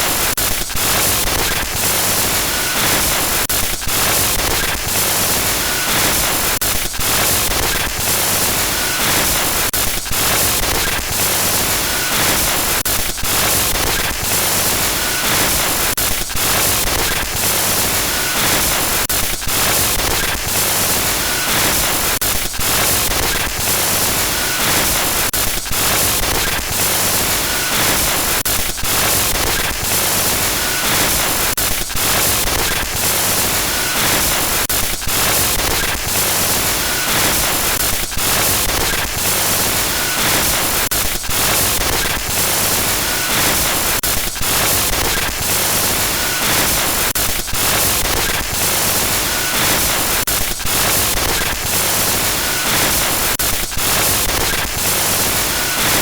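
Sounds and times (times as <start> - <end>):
harsh static hiss: 0.0 - 56.0.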